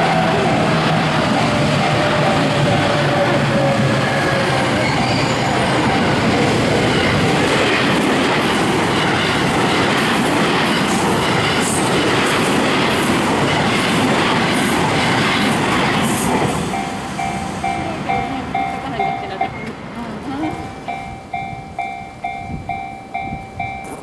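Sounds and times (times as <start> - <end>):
crossing warning bell ringing: 0.0 - 12.8, 14.9 - 24.0
train wheels rumbling on rails: 0.0 - 24.0
wheels clacking on rails: 0.0 - 24.0.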